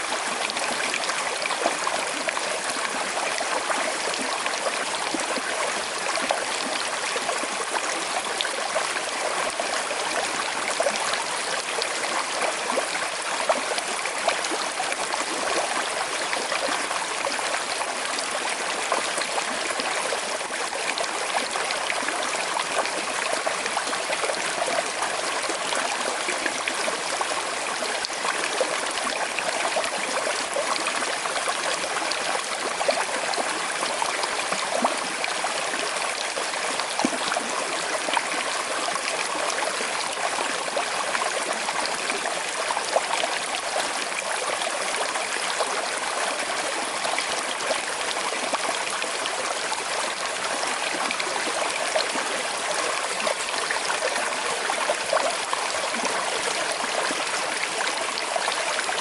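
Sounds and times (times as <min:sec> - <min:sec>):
river flowing over stones: 0:00.0 - 0:59.0.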